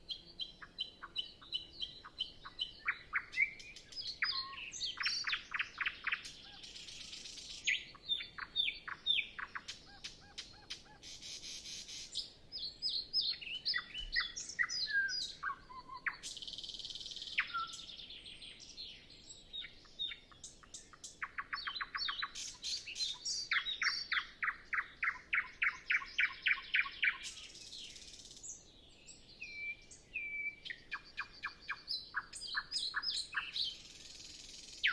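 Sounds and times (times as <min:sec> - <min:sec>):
nightingale singing: 0:00.0 - 0:34.9.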